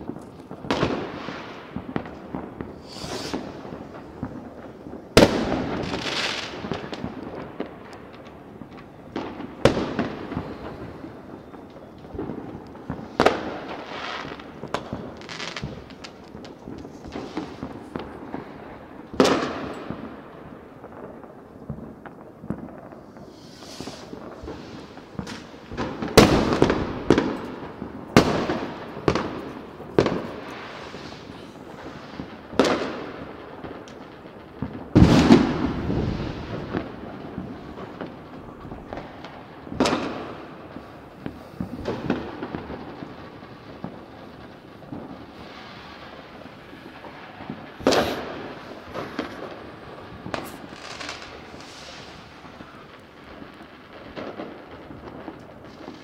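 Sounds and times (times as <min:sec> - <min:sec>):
fireworks bangs with echo: 0:00.0 - 0:56.0.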